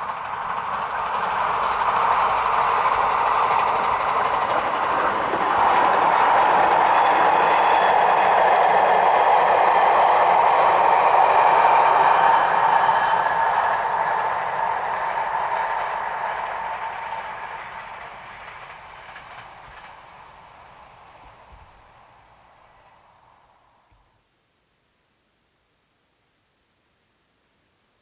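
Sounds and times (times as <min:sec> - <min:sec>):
electric train passing: 0:00.0 - 0:23.9.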